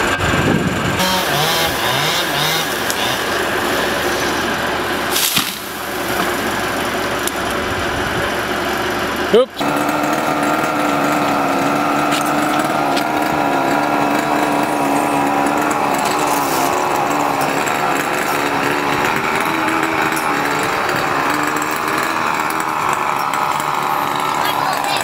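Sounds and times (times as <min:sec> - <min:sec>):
small gas engine running: 0:00.0 - 0:25.0.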